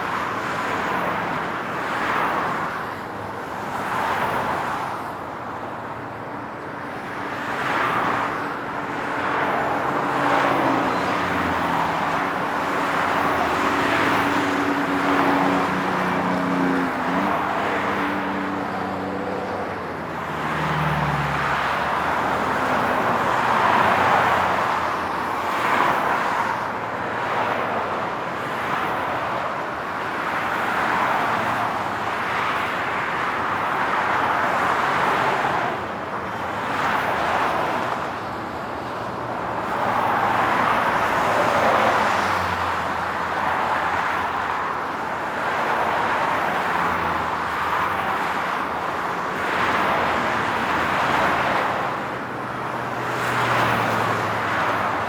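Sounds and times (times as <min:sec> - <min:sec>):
highway traffic passing: 0:00.0 - 0:55.0.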